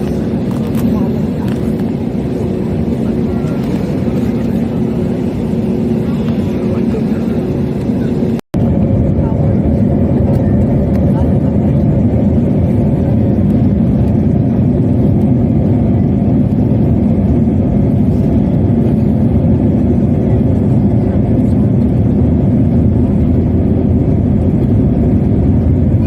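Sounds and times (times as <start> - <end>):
jet engines from inside cabin: 0.0 - 26.0.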